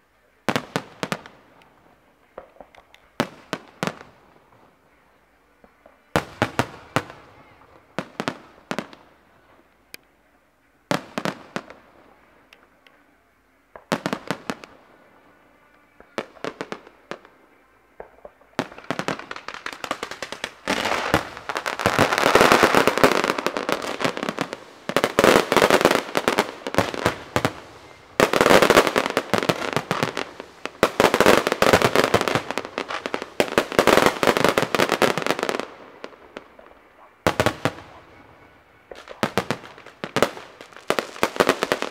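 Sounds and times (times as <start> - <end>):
fireworks exploding: 0.4 - 9.7, 10.9 - 13.1, 13.7 - 41.9.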